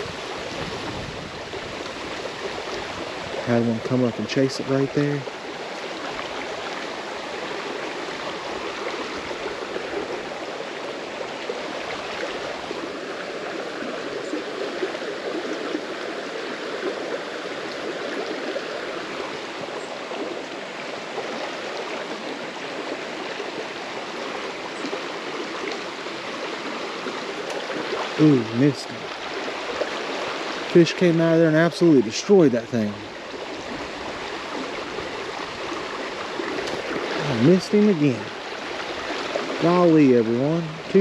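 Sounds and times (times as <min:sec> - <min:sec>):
creek water rushing over rocks: 0:00.0 - 0:41.0.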